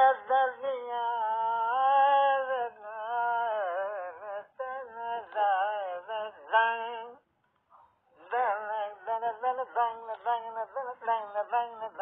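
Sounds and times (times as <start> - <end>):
elderly man singing: 0.0 - 7.2, 8.2 - 12.0.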